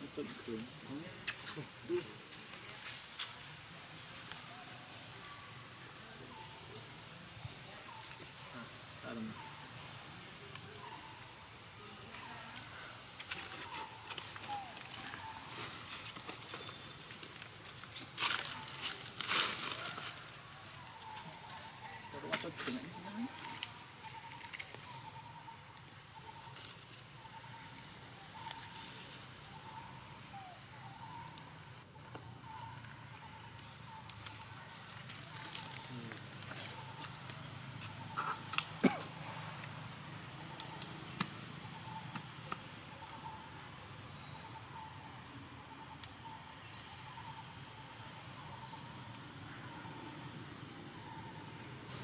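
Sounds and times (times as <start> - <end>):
insect buzz: 0.0 - 52.0
insect high-pitched whine: 0.0 - 52.0.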